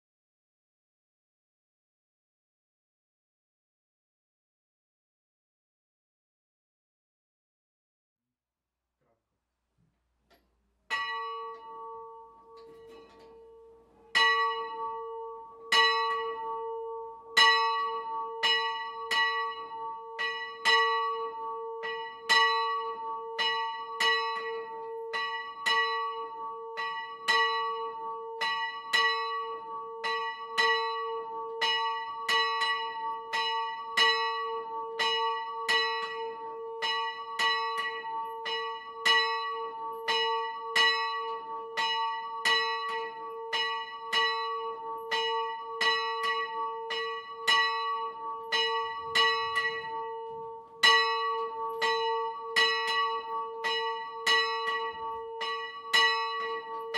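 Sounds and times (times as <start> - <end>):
church bell ringing: 10.9 - 56.9.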